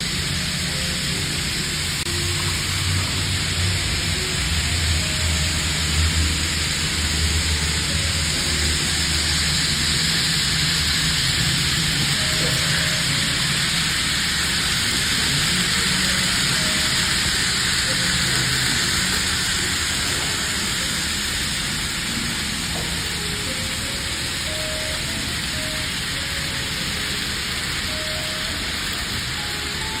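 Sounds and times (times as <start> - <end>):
train rushing noise: 0.0 - 30.0.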